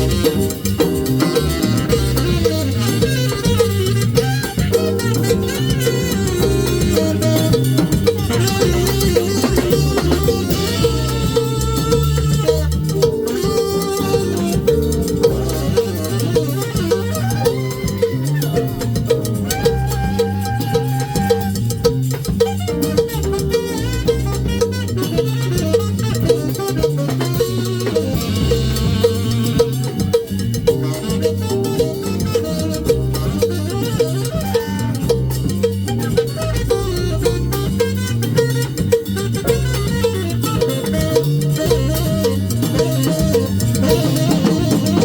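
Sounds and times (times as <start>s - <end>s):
bass line: 0.0s - 45.0s
live band playing latin music: 0.0s - 45.0s.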